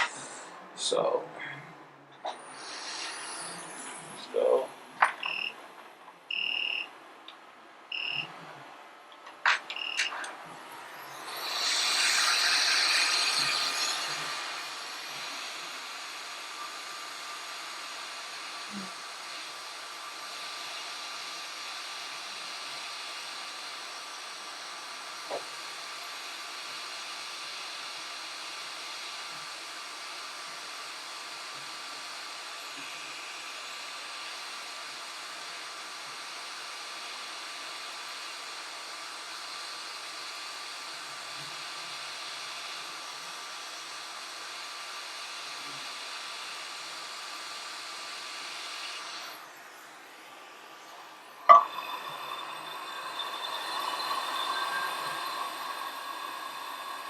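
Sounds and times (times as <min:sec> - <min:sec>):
faint steady whine: 0:00.0 - 0:57.0
hot air station blowing: 0:00.0 - 0:57.0.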